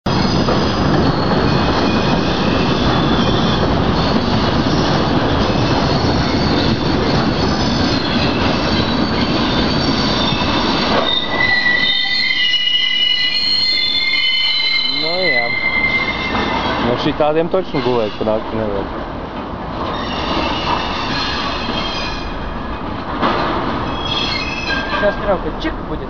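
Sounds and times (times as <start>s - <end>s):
train wheels squealing: 0.1s - 18.7s, 19.9s - 22.9s, 23.8s - 25.3s
rumble of wheels on rail: 0.1s - 26.0s.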